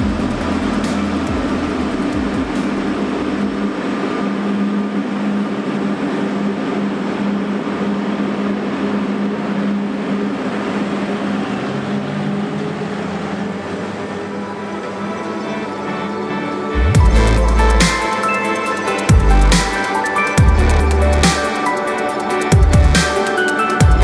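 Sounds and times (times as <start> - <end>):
snow-sweeper engine hum: 0.0 - 24.0.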